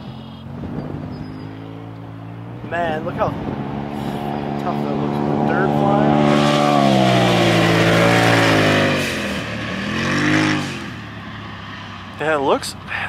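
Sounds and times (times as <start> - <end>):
turbocharged engine running hard: 0.0 - 11.2
engine rev: 0.0 - 12.5.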